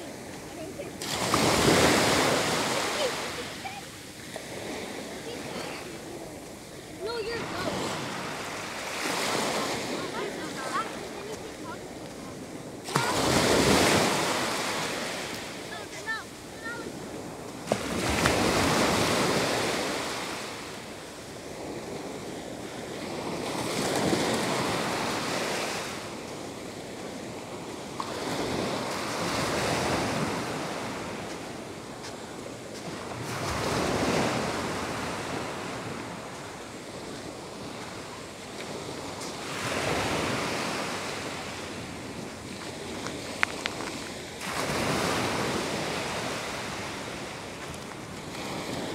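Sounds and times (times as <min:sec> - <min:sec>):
small waves washing on sand: 0:00.0 - 0:48.9.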